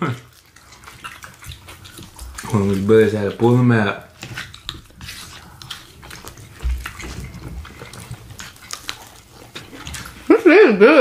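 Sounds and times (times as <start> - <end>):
chewing and wet mouth sounds: 0.0 - 11.0.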